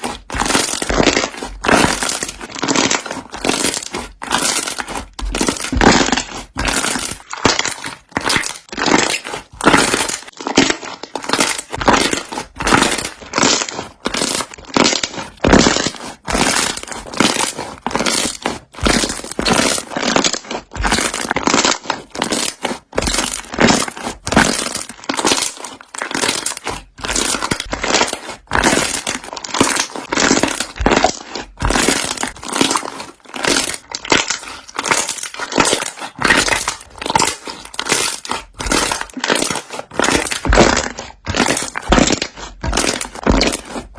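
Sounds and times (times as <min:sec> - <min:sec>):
air bubbles popping in slime: 0:00.0 - 0:43.9
slime squeezed by hand: 0:00.0 - 0:43.9.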